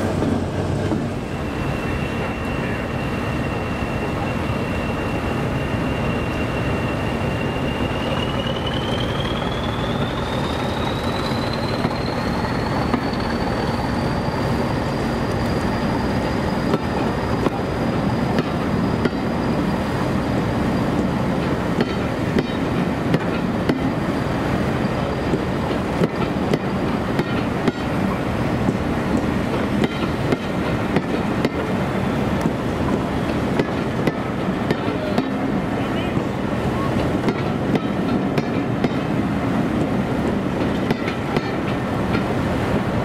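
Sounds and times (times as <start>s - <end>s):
diesel train rumbling: 0.0s - 43.0s.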